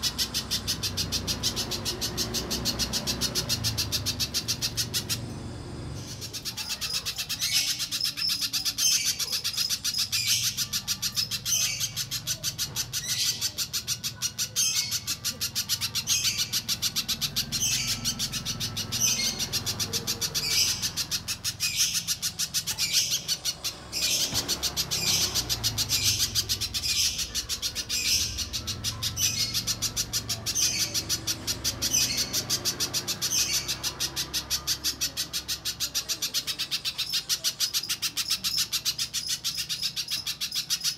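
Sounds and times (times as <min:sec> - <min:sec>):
bird calling with sharp high chips: 0:00.0 - 0:40.9.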